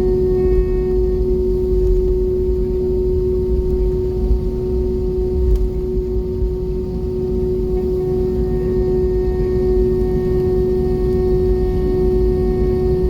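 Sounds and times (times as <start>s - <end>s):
droning tone: 0.0s - 13.0s
low cabin rumble: 0.0s - 13.0s.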